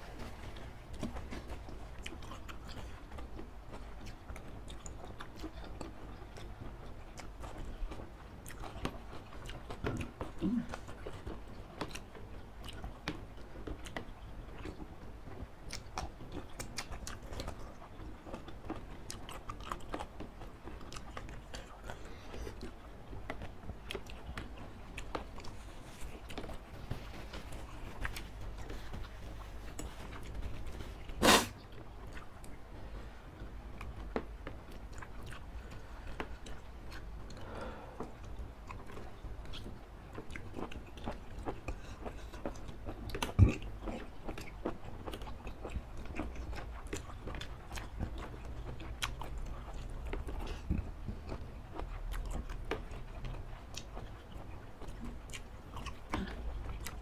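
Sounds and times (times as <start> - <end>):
chewing with wet mouth clicks: 0.5 - 31.1, 33.4 - 37.4, 38.0 - 57.0.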